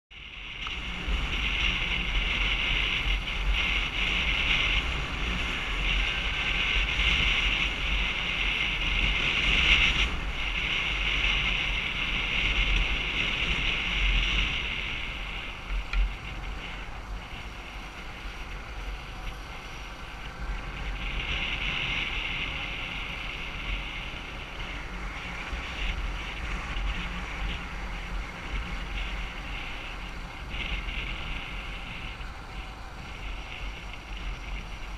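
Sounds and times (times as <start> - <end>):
motorcycle engine and tyres: 0.1 - 34.9
wind rushing over microphone: 0.1 - 34.9.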